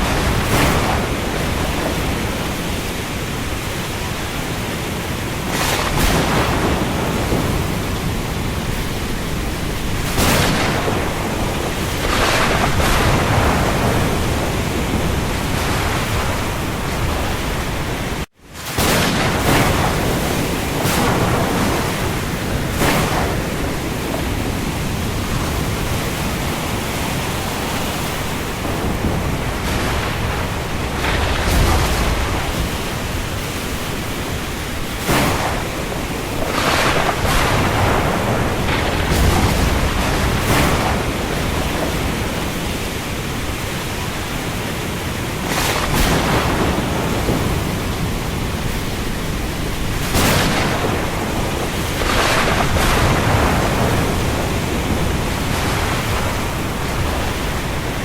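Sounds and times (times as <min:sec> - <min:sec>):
rain falling on sea: 0:00.0 - 0:58.0.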